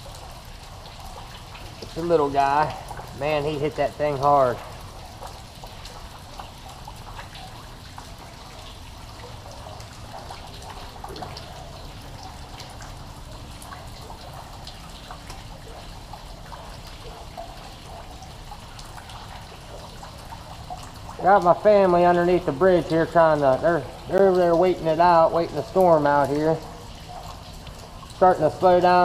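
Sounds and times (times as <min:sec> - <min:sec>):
small drops ticking: 0:00.0 - 0:29.0
steady rain: 0:00.0 - 0:29.0
water trickling and dripping: 0:00.0 - 0:29.0.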